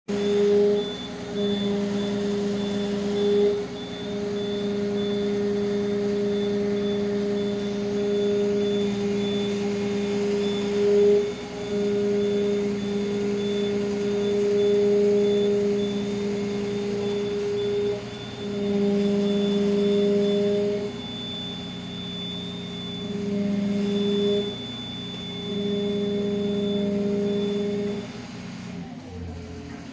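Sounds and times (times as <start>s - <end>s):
high fast-pulsing beep: 0.1s - 28.2s
fire engine and hydraulics drone: 0.1s - 29.9s.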